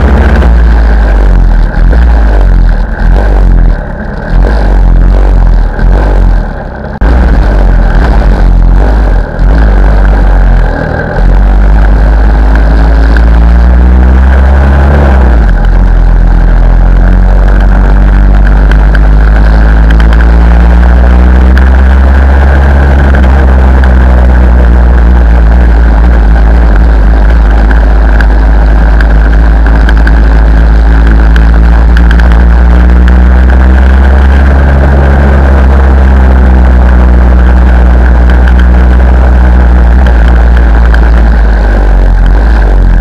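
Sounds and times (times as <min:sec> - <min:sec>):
motorcycle engine revving: 0:00.0 - 0:43.0
wind rumble on microphone: 0:00.0 - 0:43.0.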